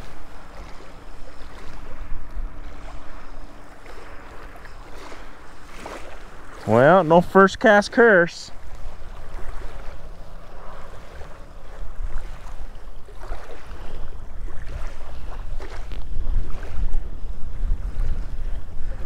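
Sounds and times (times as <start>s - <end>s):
wind buffeting microphone: 0.0s - 7.1s, 8.5s - 19.0s
small waves lapping: 0.0s - 19.0s.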